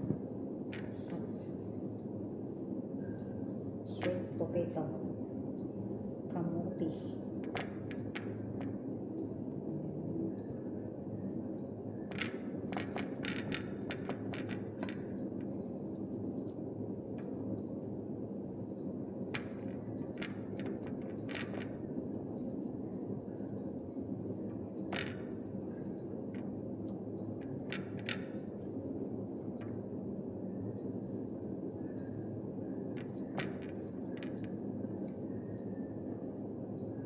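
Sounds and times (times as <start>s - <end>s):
low background noise: 0.0s - 37.0s.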